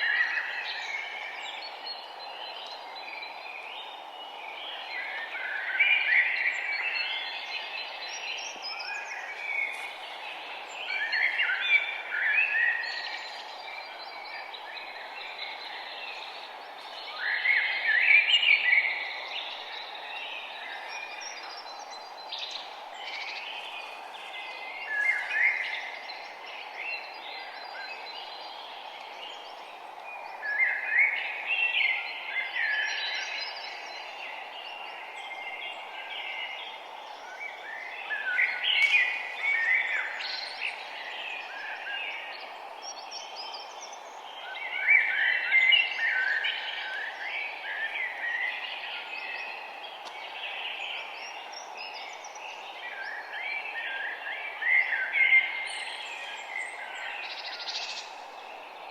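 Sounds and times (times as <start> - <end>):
songbirds chirping and singing: 0.0 - 58.9.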